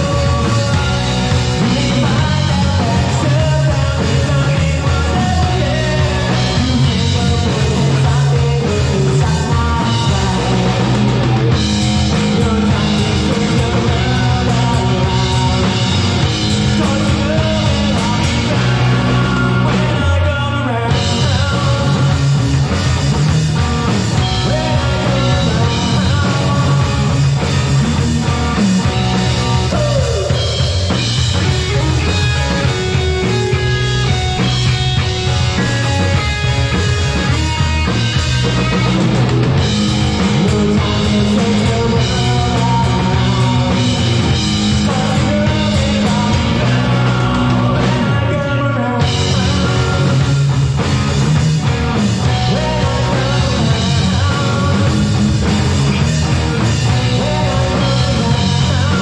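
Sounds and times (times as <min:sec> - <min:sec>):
rock band music with drums: 0:00.0 - 0:59.0.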